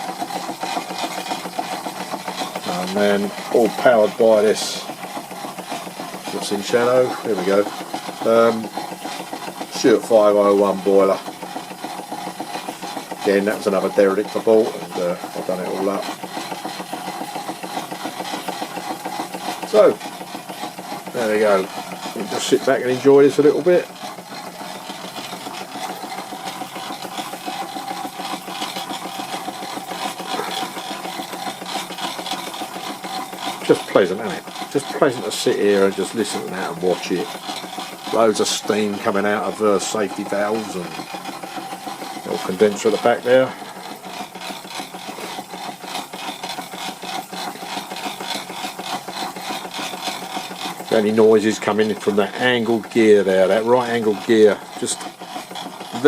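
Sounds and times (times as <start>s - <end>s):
mechanical gear chatter: 0.0s - 56.0s
steam engine running: 0.0s - 56.0s
steam hissing from valves: 0.0s - 56.0s.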